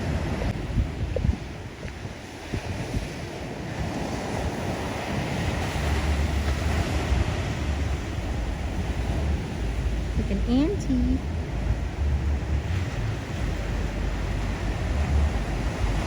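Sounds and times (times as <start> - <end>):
ocean surf breaking: 0.0 - 16.0
wind rumbling on microphone: 0.0 - 16.0.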